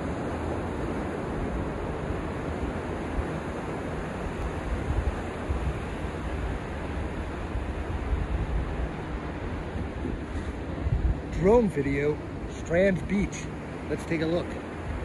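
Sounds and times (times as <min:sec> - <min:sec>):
wind buffeting microphone: 0:00.0 - 0:13.7
ocean surf on beach: 0:00.0 - 0:15.0.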